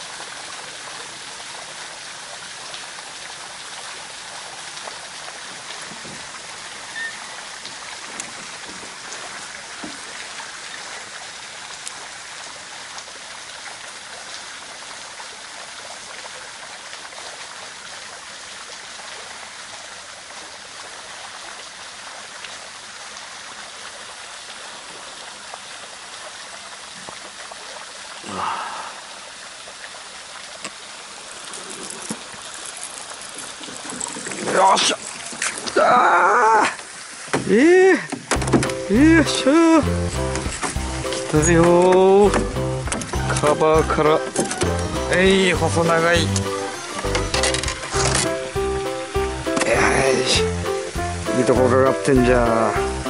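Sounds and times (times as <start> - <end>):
running water hiss: 0.0 - 53.0.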